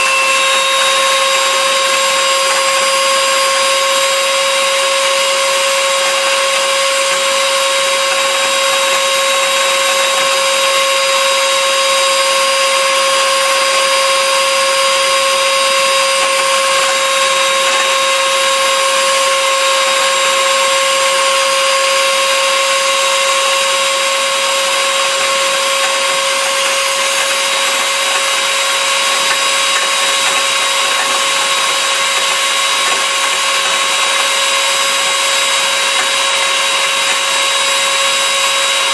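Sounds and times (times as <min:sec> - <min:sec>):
blender motor whining: 0:00.0 - 0:38.9.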